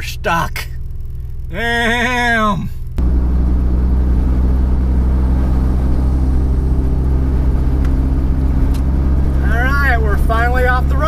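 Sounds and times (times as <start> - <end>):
car engine hum: 0.0 - 11.0
road and tyre noise: 0.0 - 11.0.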